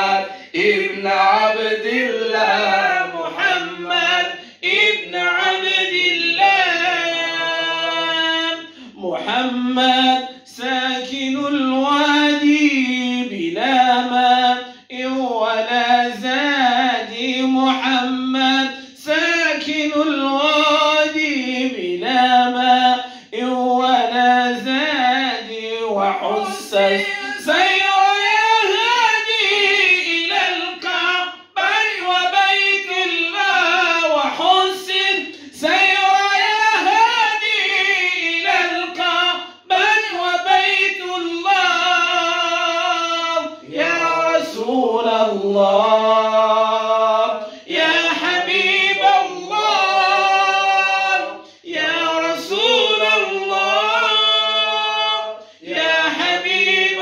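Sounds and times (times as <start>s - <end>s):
men and boy singing a hymn: 0.0s - 57.0s.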